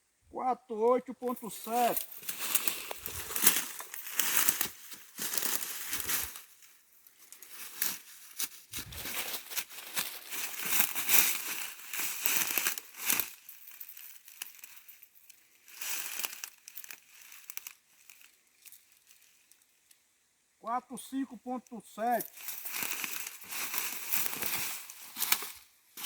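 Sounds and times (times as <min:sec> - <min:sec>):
dry leaves rustling and crunching: 0:01.2 - 0:20.0, 0:22.0 - 0:26.0.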